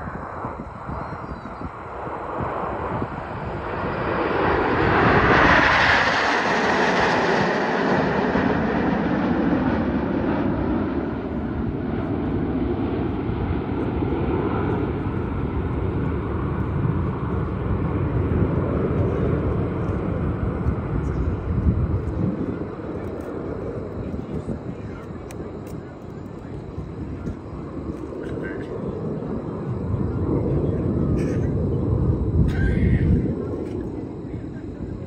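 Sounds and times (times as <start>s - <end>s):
jets roaring overhead: 0.0s - 35.0s.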